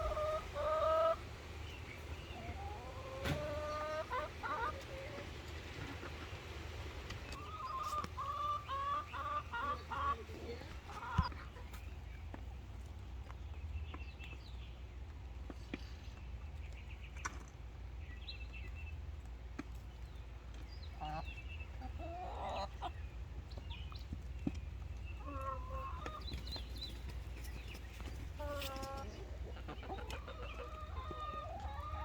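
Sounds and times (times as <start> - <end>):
chickens clucking: 0.0 - 14.0, 18.6 - 32.0.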